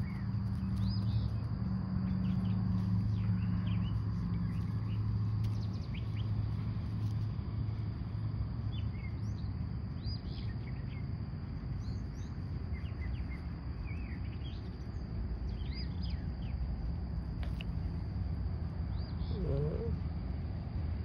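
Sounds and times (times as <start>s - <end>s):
small birds chirping: 0.0s - 7.1s, 8.6s - 18.0s, 18.8s - 20.2s
steady low rumble: 0.0s - 21.0s.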